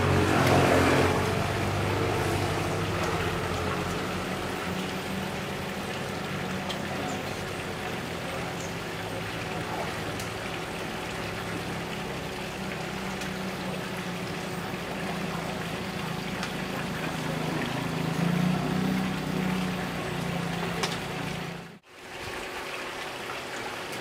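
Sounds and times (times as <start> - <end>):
low mechanical hum: 0.0 - 24.0
running water rushing: 0.0 - 24.0.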